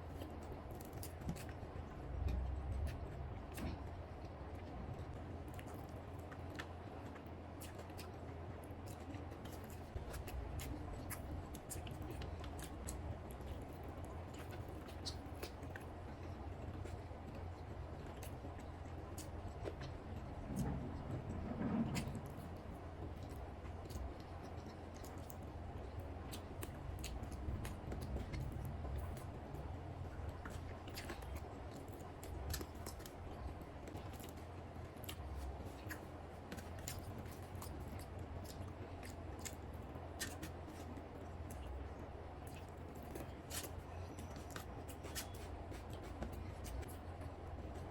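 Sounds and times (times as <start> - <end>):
steady low hum: 0.0 - 47.9
wet chewing sounds: 0.0 - 47.9.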